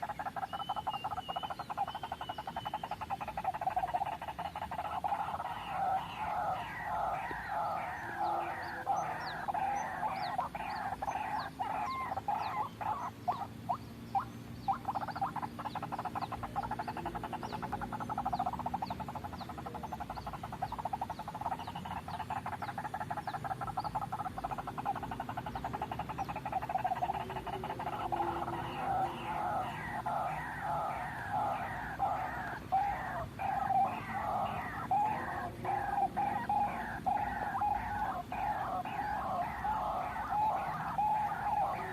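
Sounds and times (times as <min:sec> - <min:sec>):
waterhens croaking and rattling: 0:00.0 - 0:41.9.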